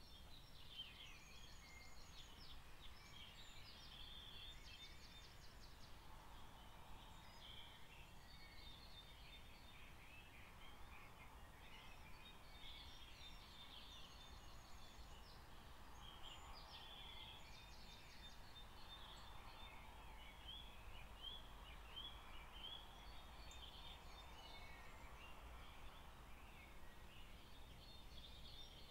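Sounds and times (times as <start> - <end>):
faint birdsong: 0.0 - 28.9.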